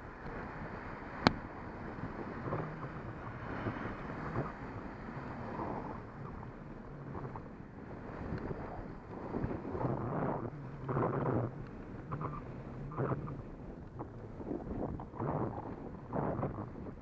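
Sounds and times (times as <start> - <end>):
wind buffeting microphone: 0.0 - 17.0
low rumble: 1.3 - 17.0.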